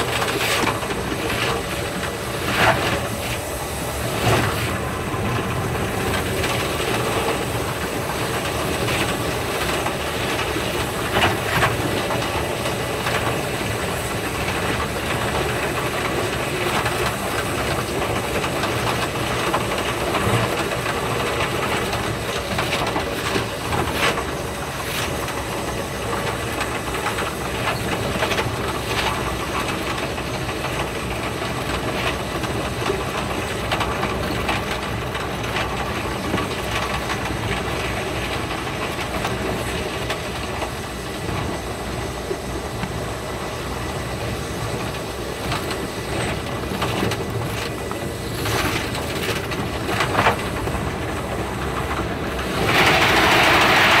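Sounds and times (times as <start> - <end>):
train running hiss: 0.0 - 54.0
wheels clicking over rails: 0.0 - 54.0.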